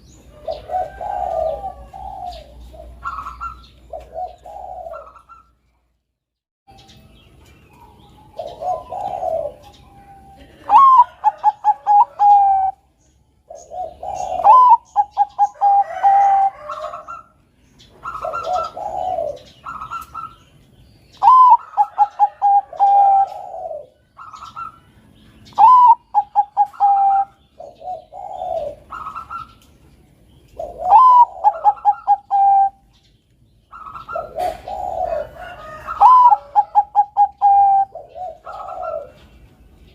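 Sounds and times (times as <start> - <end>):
dove cooing: 0.0 - 5.6, 7.9 - 20.5, 21.1 - 29.7, 30.5 - 33.0, 33.7 - 39.9.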